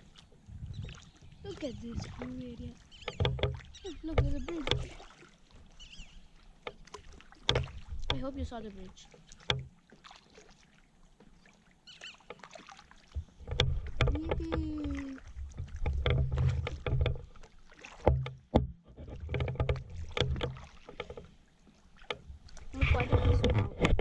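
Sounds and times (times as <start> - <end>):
paddle strokes splashing water: 0.0 - 24.0.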